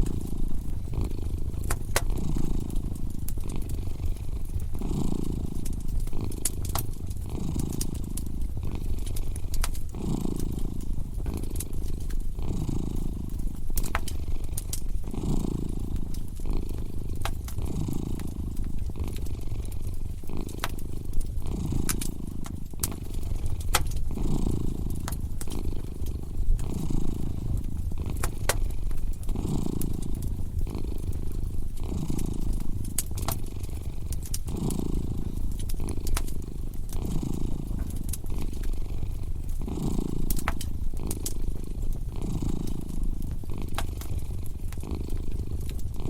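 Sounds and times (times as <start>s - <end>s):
cat purring: 0.0s - 46.0s
wood fire crackling and popping: 0.0s - 46.0s.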